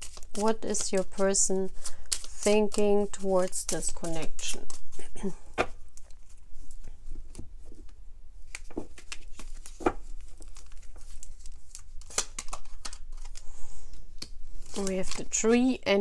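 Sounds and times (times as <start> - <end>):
cards being shuffled: 0.0 - 13.4.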